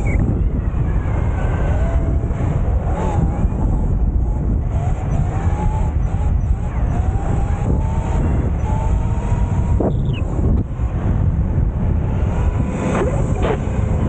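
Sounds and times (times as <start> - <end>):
motorbike engine whine: 0.0 - 14.0
wind buffeting microphone: 0.0 - 14.0.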